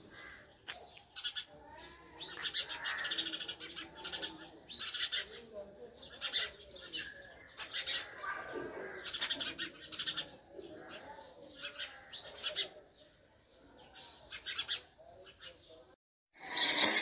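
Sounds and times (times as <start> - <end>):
sparrow chirping: 0.1 - 17.0.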